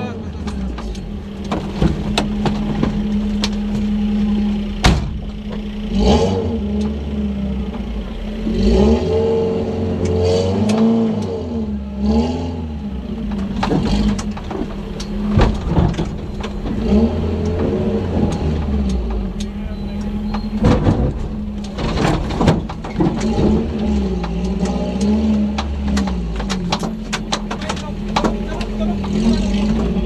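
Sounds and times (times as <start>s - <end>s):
vehicle knocks and clatter: 0.0s - 9.0s, 12.9s - 30.0s
off-road vehicle engine revving: 0.0s - 30.0s.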